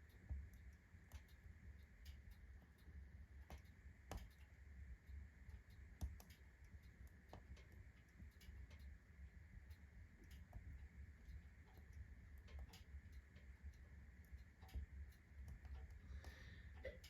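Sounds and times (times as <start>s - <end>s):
low steady fire rumble: 0.0s - 17.0s.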